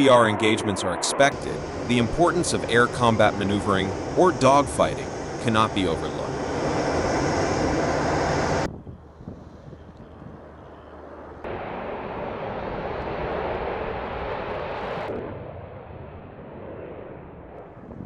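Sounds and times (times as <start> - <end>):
fighter jet engine noise: 0.0 - 18.0.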